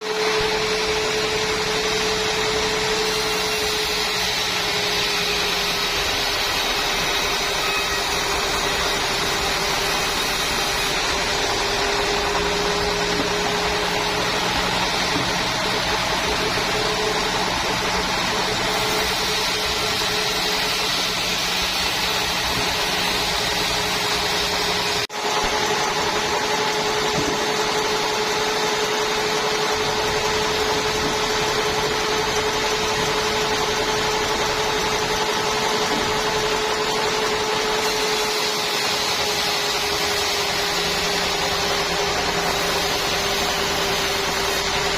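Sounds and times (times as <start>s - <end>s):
sawmill machinery droning: 0.0s - 44.9s.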